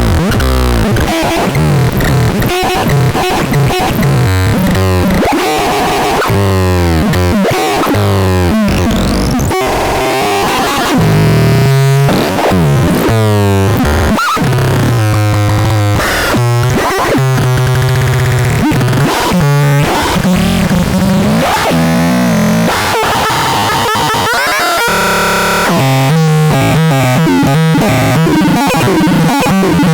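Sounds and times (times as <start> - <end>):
harsh synthesizer tones: 0.0 - 29.9.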